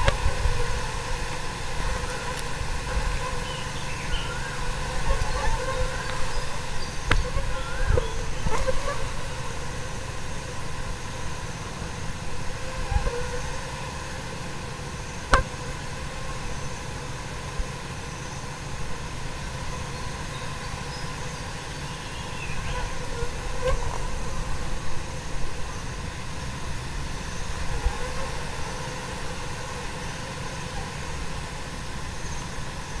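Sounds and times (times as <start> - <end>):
swarm of flies whirring: 0.0 - 33.0.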